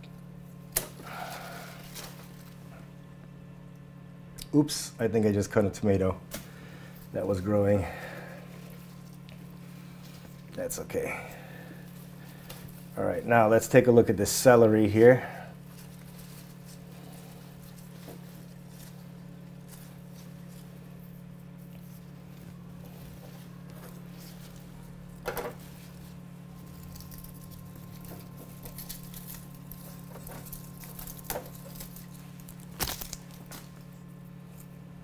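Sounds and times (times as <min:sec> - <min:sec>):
steady low hum: 0:00.0 - 0:35.0
leaves rustling: 0:06.5 - 0:34.7.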